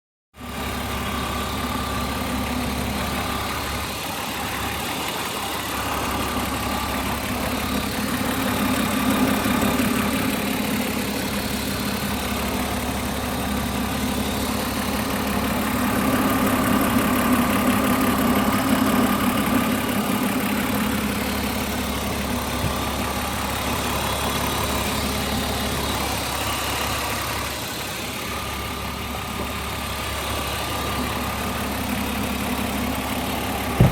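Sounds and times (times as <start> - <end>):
car engine idling: 0.4 - 33.9
fast regular engine ticking: 0.4 - 33.9.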